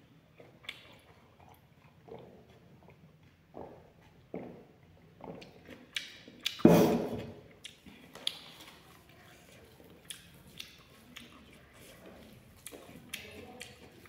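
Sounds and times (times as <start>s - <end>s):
eating sounds: 0.0s - 14.0s.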